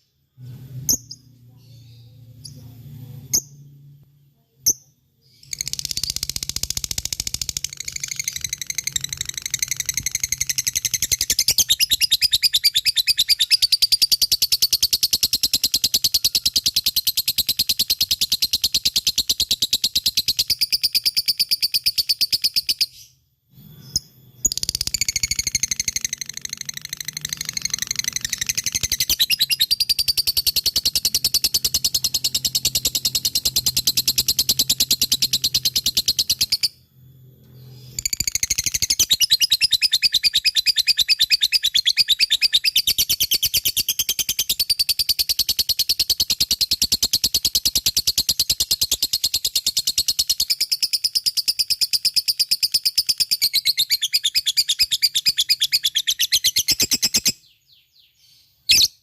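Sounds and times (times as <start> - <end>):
lovebird shrill chirping: 4.7 - 23.2, 23.8 - 36.8, 37.6 - 59.0.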